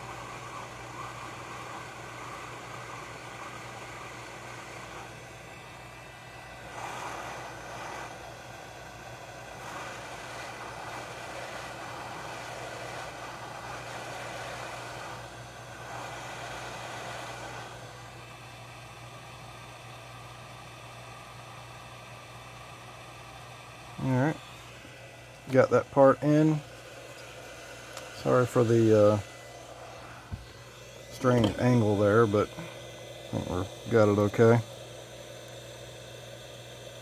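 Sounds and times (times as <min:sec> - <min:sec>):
hot air blower rushing: 0:00.0 - 0:37.0.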